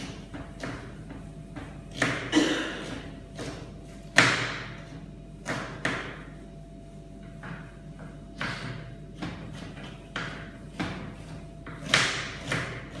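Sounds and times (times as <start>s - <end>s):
knife chopping on cutting board: 0.0s - 6.4s, 7.4s - 13.0s.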